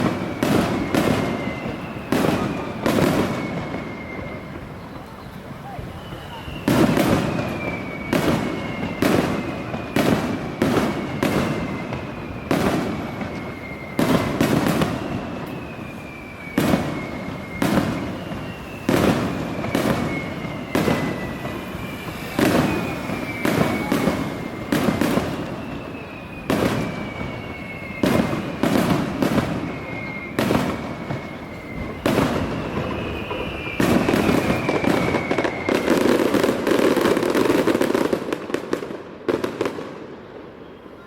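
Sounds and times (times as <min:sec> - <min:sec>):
firework whistles: 0:00.0 - 0:41.0
fireworks bangs with rumbling echo: 0:00.0 - 0:41.0.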